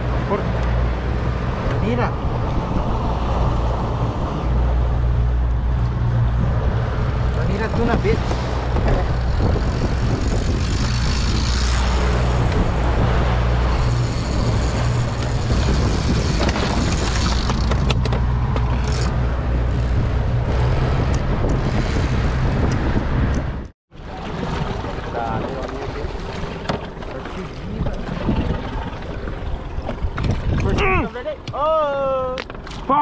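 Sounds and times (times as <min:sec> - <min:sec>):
boat engine droning: 0:00.0 - 0:30.3
rushing wind: 0:00.0 - 0:33.0
water noise: 0:00.0 - 0:33.0.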